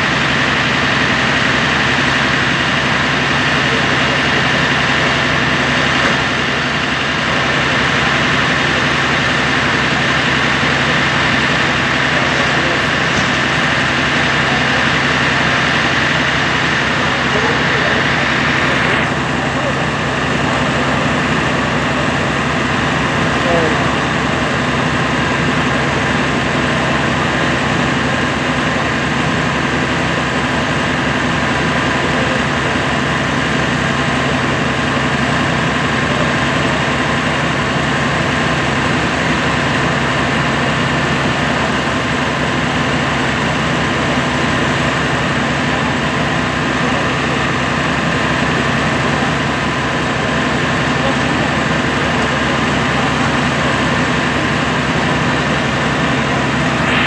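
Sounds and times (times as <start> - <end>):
fire truck engine running: 0.0 - 57.0
steady whine: 0.0 - 57.0.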